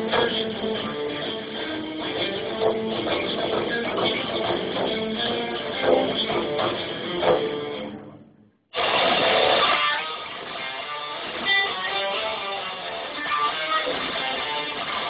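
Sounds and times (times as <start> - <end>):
drums: 0.0 - 8.1, 8.7 - 15.0
electric guitar strumming: 0.0 - 15.0.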